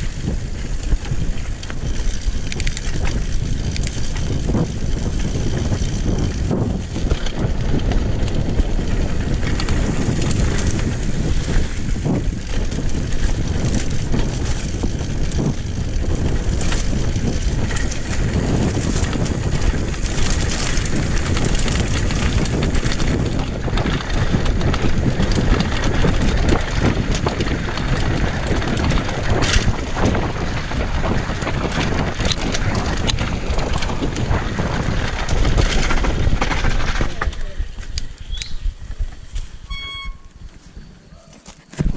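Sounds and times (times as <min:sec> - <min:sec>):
bike knocking and rattling: 0:00.0 - 0:41.9
tyres on dirt: 0:00.0 - 0:41.9
wind buffeting microphone: 0:00.0 - 0:41.9.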